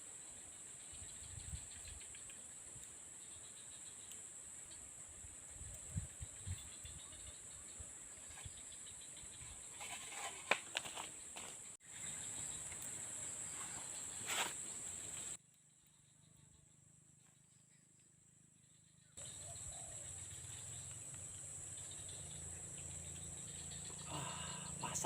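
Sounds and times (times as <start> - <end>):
insects chorus: 0.0 - 25.0.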